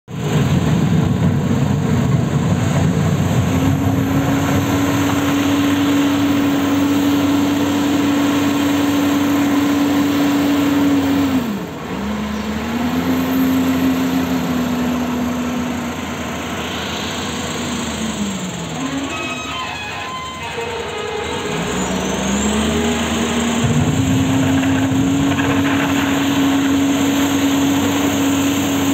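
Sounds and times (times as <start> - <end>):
wheel loader diesel engine: 0.1 - 28.9.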